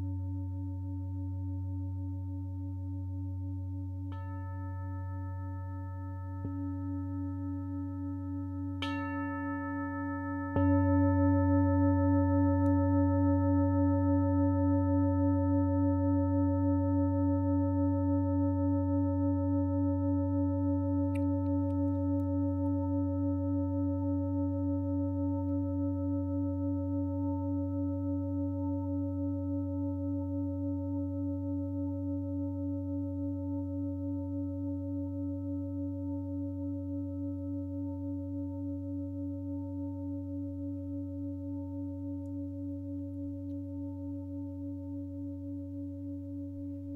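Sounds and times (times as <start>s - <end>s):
singing bowl ringing: 0.0s - 46.9s.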